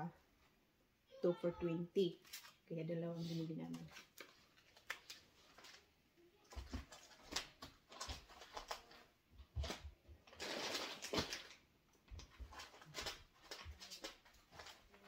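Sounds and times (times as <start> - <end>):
plastic bags rustling and crinkling: 2.1 - 15.0.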